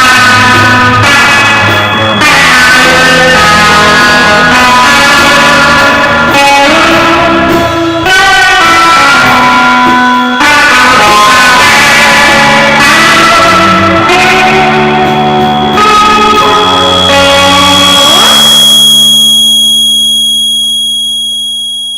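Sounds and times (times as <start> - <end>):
rock band with electric guitars: 0.0 - 19.4.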